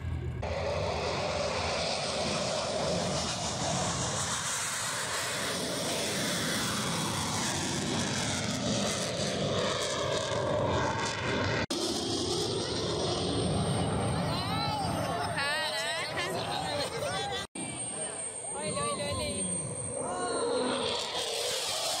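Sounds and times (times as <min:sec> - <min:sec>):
military aircraft low pass: 0:00.0 - 0:22.0.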